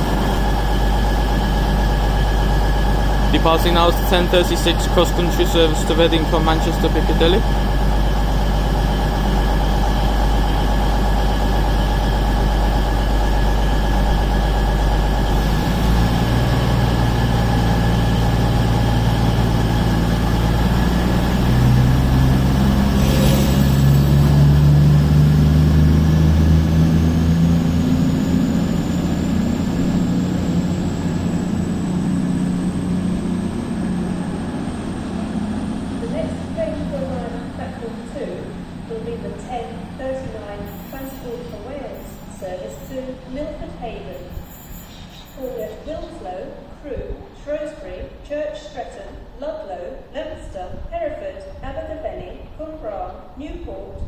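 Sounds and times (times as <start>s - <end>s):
diesel train engines: 0.0s - 54.0s.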